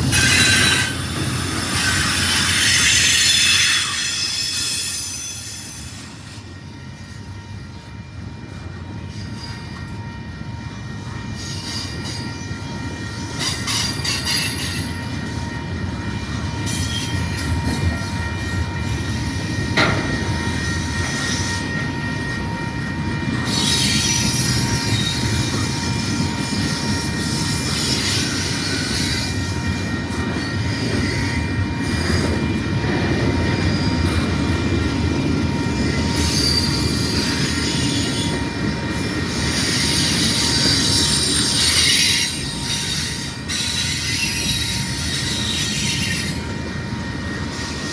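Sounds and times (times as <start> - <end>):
freight train rumbling: 0.0 - 47.9
train wheels squealing: 0.0 - 47.9.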